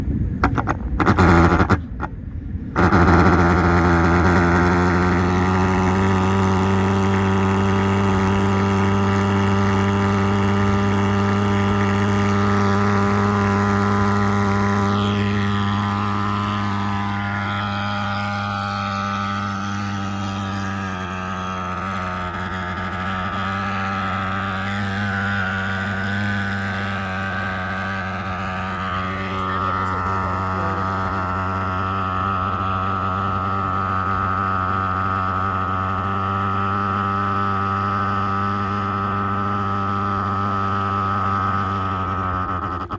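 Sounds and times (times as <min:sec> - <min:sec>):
pulse-jet fogger buzzing drone: 0:00.0 - 0:42.9.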